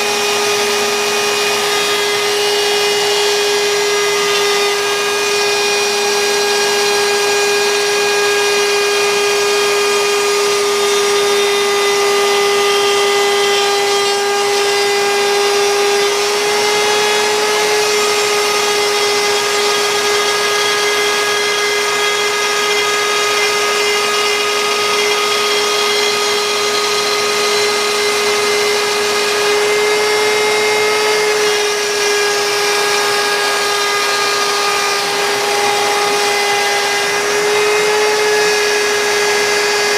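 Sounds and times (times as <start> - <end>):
router spindle cutting wood: 0.0 - 39.9.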